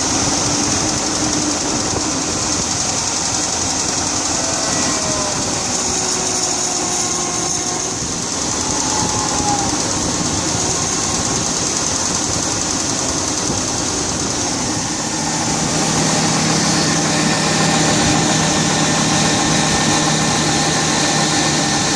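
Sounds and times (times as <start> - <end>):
engine running with knock: 0.0 - 21.9.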